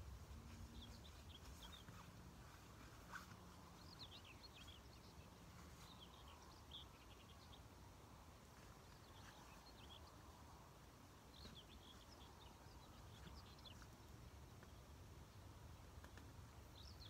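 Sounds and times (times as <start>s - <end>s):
faint birdsong chirping: 0.0s - 17.0s.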